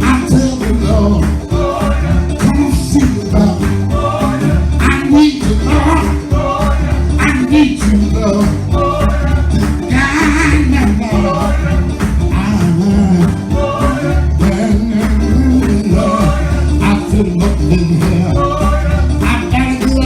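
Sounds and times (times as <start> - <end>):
gospel band playing: 0.0 - 20.0
person singing: 0.0 - 20.0.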